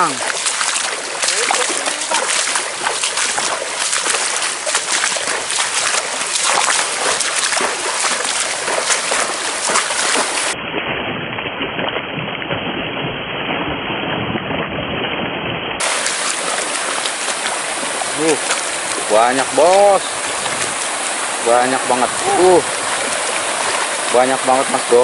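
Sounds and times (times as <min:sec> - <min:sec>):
cast net hitting water: 0:00.0 - 0:12.8, 0:15.8 - 0:25.0
feet splashing through water: 0:00.0 - 0:12.8, 0:15.8 - 0:25.0.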